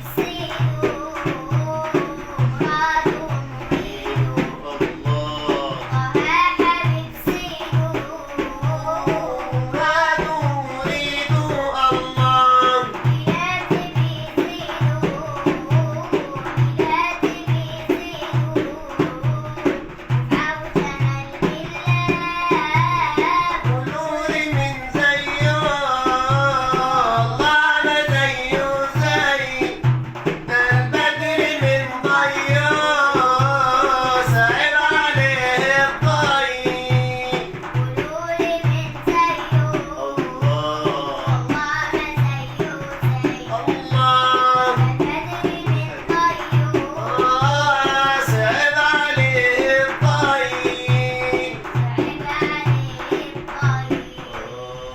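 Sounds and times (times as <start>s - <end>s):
girl singing: 0.0s - 54.9s
steady drum beat: 0.0s - 54.9s.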